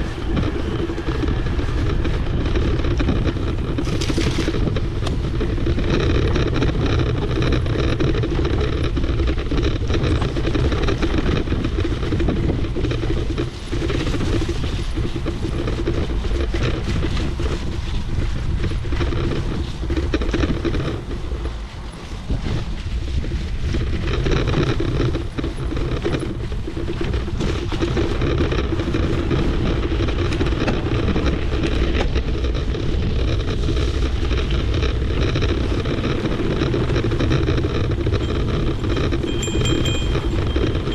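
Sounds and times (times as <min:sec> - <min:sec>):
bike tyre rumble and rattle: 0:00.0 - 0:40.9
wind on microphone: 0:00.0 - 0:40.9.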